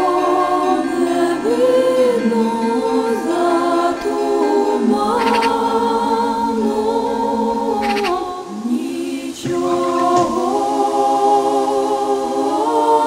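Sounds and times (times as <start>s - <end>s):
a cappella choir singing: 0.0s - 13.0s.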